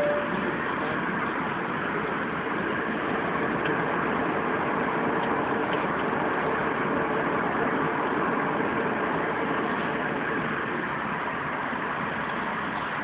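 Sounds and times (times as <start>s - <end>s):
faint steady hum: 0.0s - 11.5s
airliner cabin engine rush: 0.0s - 13.0s.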